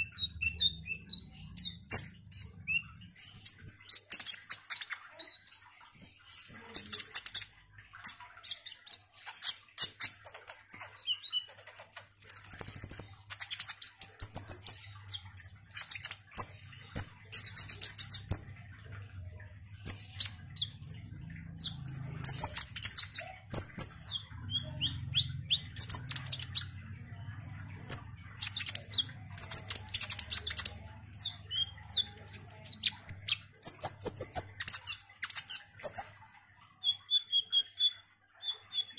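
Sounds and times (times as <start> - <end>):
bird chattering song: 0.0 - 18.6, 19.6 - 36.2, 36.8 - 38.9.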